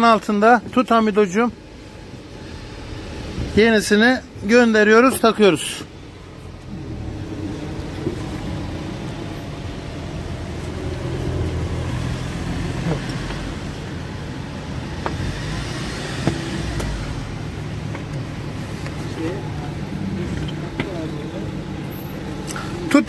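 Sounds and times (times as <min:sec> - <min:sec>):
low vehicle rumble: 0:00.7 - 0:23.0.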